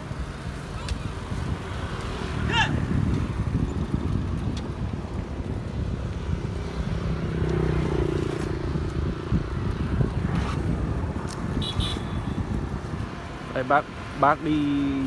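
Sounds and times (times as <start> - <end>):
motorbike engine hum: 0.0 - 13.5
street traffic rumble: 0.0 - 15.0.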